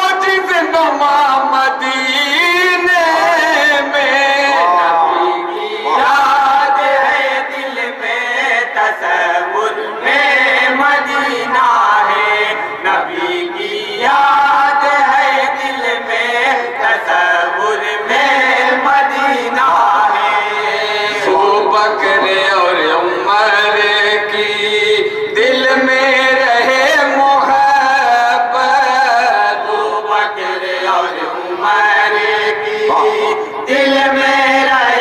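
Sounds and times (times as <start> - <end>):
men singing in unison: 0.0 - 35.0.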